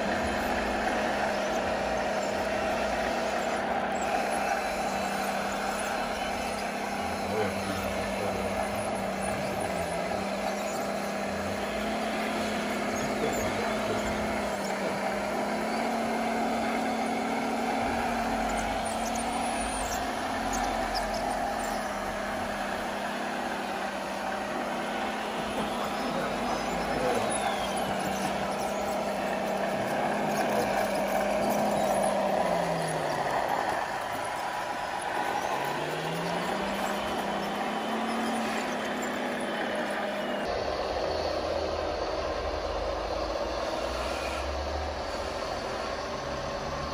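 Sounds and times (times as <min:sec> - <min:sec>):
rc model truck engines: 0:00.0 - 0:46.9.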